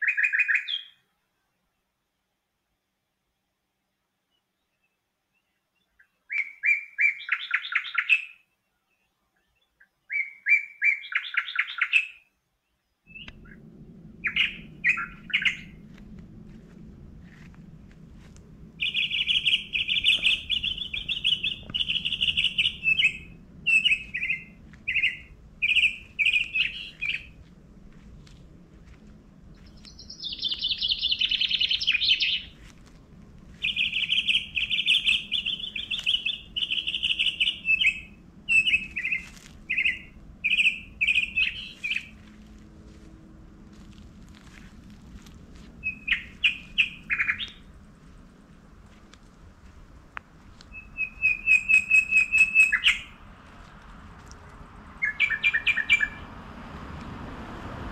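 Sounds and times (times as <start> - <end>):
songbird singing: 0.0 - 2.3, 4.2 - 56.4.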